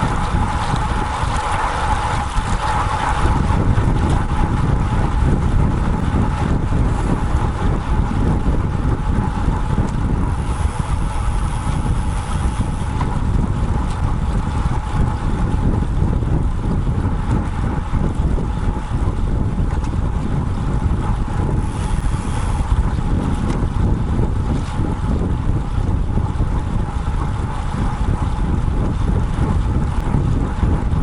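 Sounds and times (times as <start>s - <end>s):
low riding rumble: 0.0s - 31.0s
wind buffeting microphone: 0.0s - 31.0s.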